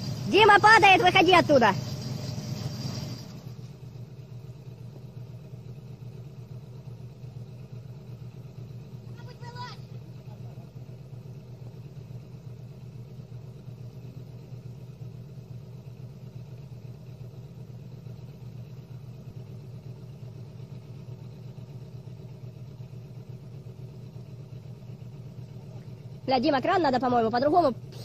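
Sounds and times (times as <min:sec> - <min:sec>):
heavy machine engine running: 0:00.0 - 0:28.0.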